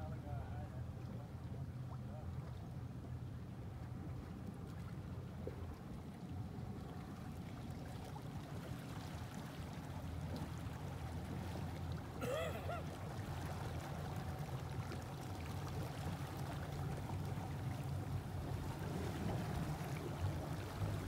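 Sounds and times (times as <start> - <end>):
motorboat engine rumble: 0.0 - 21.0.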